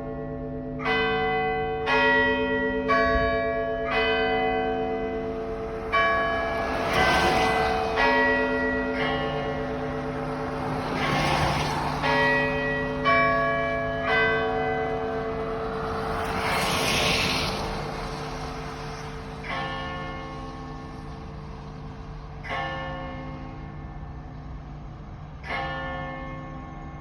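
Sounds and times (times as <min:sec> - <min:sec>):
church bells ringing: 0:00.0 - 0:16.4, 0:18.9 - 0:27.0.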